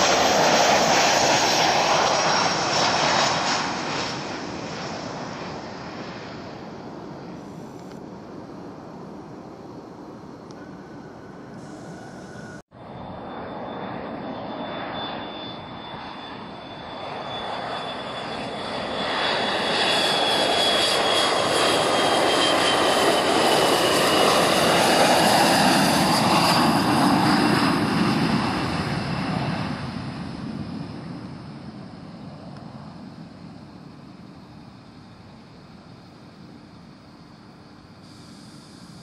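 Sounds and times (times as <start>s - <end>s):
high turbine whine: 0.0s - 39.0s
jet engines passing: 0.0s - 39.0s.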